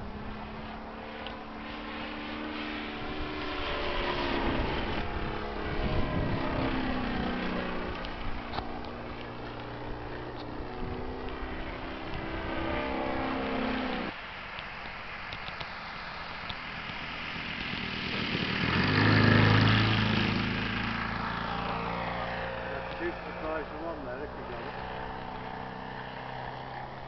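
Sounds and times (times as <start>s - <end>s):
model plane engine: 0.0s - 14.1s, 16.3s - 27.0s.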